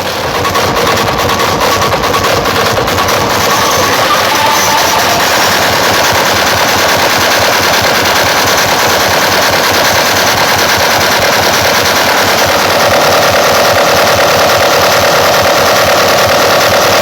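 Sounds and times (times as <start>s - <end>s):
distorted rattling beat on speakers: 0.0s - 17.0s.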